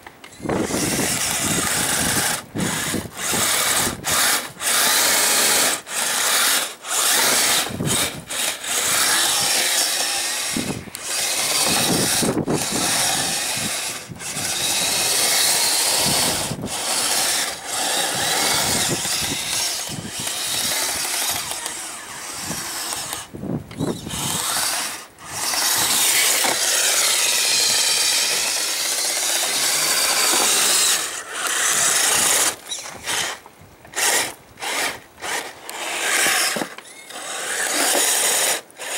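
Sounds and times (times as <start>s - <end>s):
electric motors whining: 0.0s - 38.9s.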